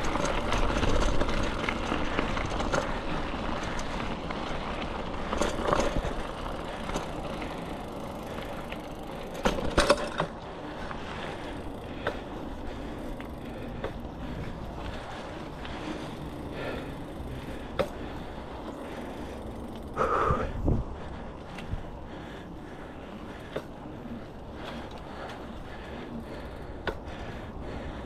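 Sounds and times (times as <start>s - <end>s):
bike frame and chain rattling: 0.0s - 28.0s
bike tyres on dirt: 0.0s - 28.0s.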